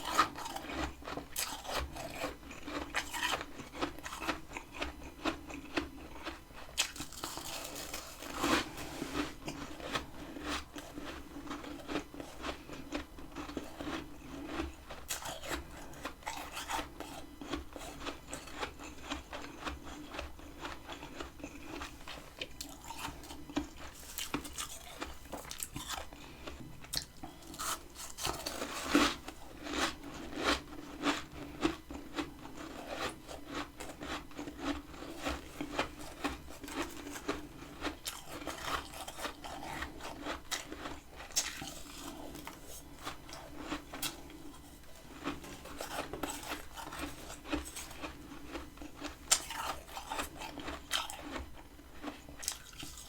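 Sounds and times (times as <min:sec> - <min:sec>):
chewing crunchy frost: 0:00.0 - 0:53.0.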